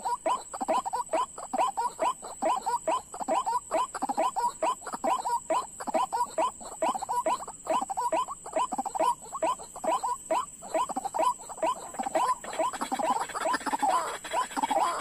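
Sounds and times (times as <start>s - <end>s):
birds calling with harsh notes: 0.0s - 15.0s.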